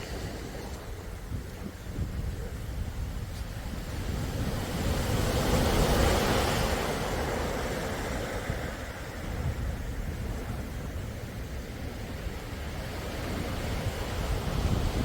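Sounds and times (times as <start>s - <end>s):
low rumble of surf: 0.0s - 15.0s
sea waves washing ashore: 0.0s - 15.0s.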